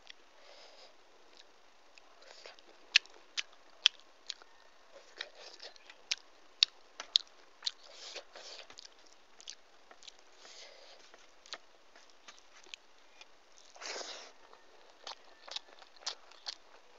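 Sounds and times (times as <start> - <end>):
chewing food: 0.0 - 16.9.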